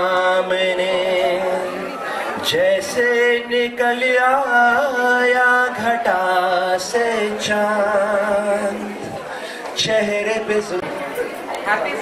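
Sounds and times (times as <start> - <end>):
man singing through a pa: 0.0 - 11.0.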